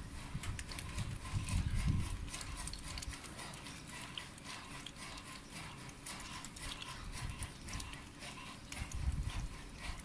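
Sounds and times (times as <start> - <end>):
geese pecking metal bowl: 0.0 - 10.0.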